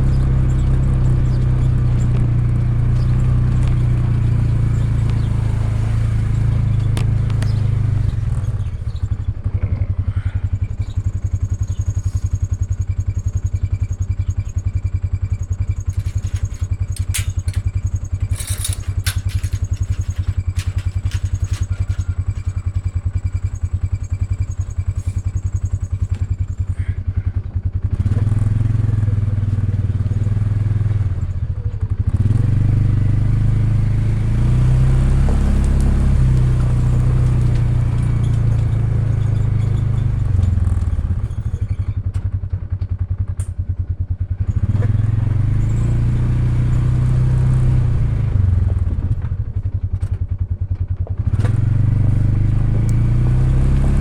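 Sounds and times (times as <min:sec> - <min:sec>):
atv engine running: 0:00.0 - 0:54.0
engine clattering: 0:00.0 - 0:54.0.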